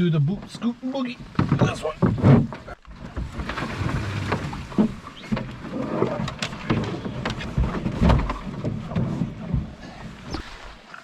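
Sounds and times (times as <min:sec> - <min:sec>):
brush and branches rustling: 0:00.2 - 0:11.0.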